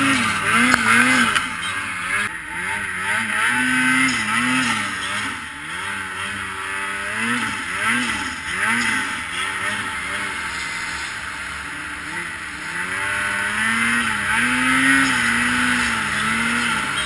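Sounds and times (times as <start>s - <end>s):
steady rushing noise: 0.0s - 16.6s
snowmobile engine revving: 0.0s - 17.0s.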